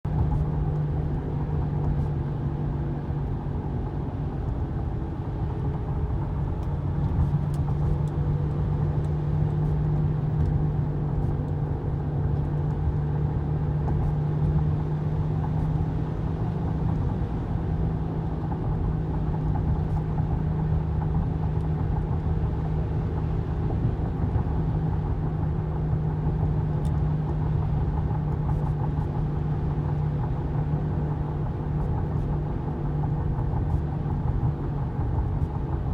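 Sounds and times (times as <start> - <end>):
road and tyre noise: 0.0 - 35.9
low hum from car: 0.1 - 35.9.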